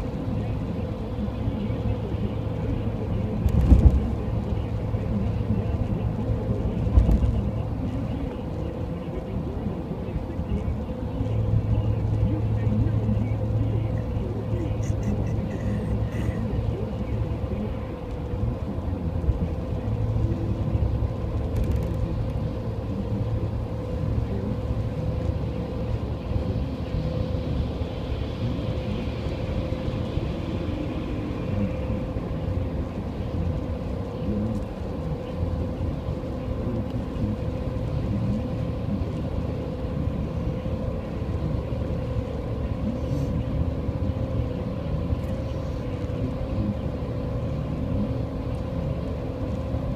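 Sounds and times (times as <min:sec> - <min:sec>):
car engine and road rumble: 0:00.0 - 0:49.9.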